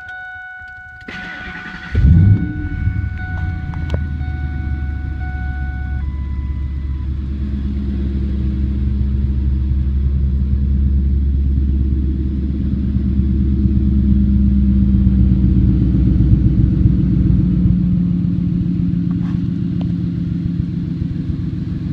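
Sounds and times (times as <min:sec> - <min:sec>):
truck engine idling: 0:00.0 - 0:21.9.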